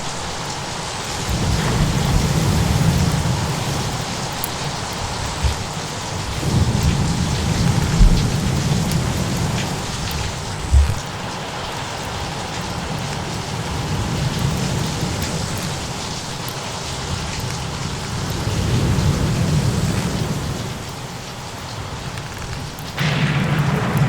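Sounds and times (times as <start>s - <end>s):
steady rain: 0.0s - 24.0s
low rolling thunder: 1.1s - 16.4s, 17.0s - 21.4s, 22.0s - 24.0s.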